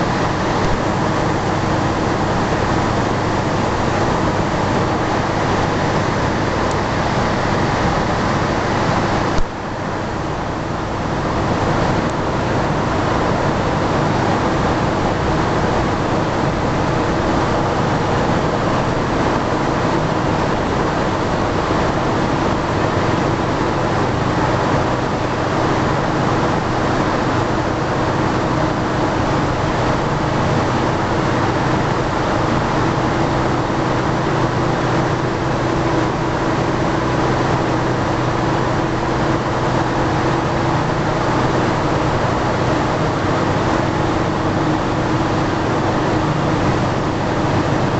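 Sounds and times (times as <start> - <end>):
turbine machine drone: 0.0 - 47.9.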